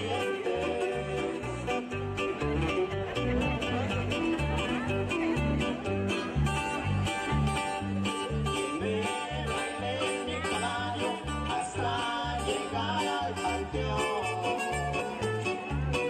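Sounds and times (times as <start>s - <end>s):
live band dance music: 0.0s - 16.0s.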